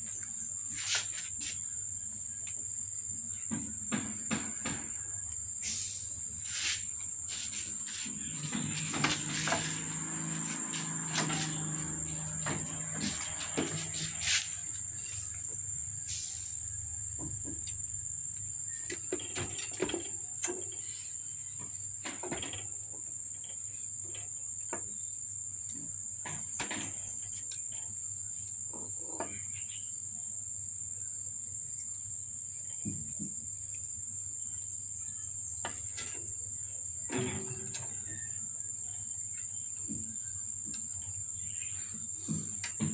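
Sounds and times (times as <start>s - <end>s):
high-pitched insect trill: 0.0s - 42.9s.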